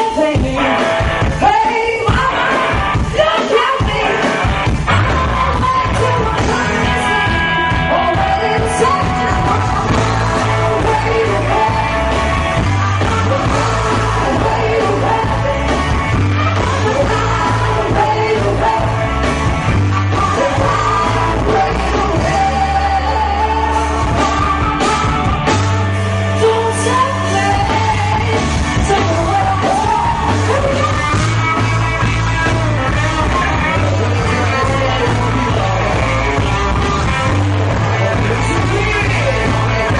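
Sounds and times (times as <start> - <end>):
bass line: 0.0 - 39.9
guitar: 0.0 - 39.9
person singing: 0.0 - 39.9.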